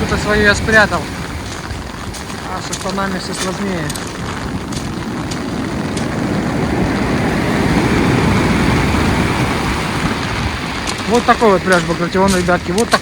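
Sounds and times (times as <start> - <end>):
stormy sea surf: 0.0 - 13.0
wind buffeting microphone: 0.0 - 13.0.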